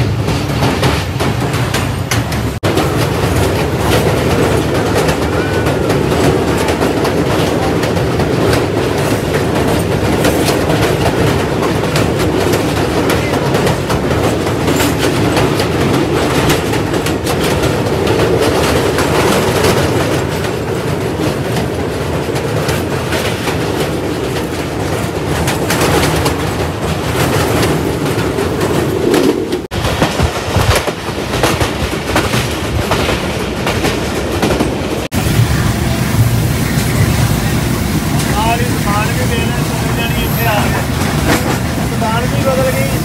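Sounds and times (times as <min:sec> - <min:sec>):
train wheels clattering on rails: 0:00.0 - 0:43.0.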